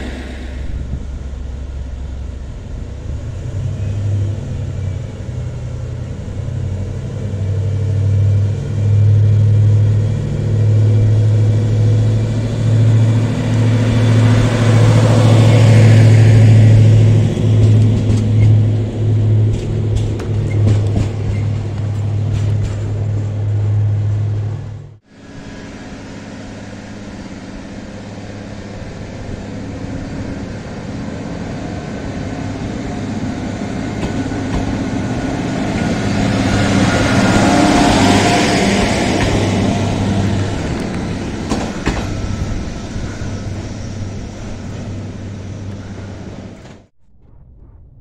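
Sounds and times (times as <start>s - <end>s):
diesel engine humming: 0.0s - 46.9s
train pulling away: 0.0s - 46.9s.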